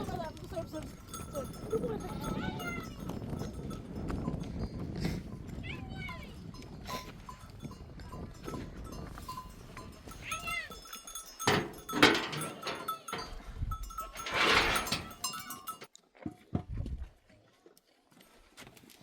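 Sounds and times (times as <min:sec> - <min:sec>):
livestock bells clinking: 0:00.0 - 0:15.9.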